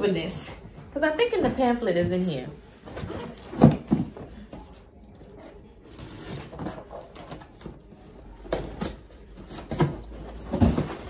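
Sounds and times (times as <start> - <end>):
packaging rustling and scraping: 0.6 - 11.0.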